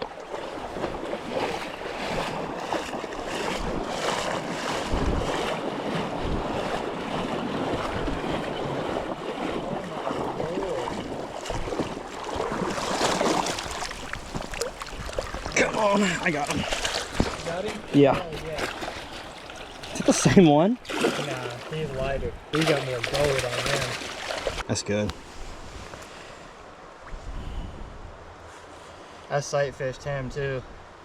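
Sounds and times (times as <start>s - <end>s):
stream water rushing: 0.0s - 27.0s
wind buffeting microphone: 0.6s - 24.6s, 27.1s - 28.4s.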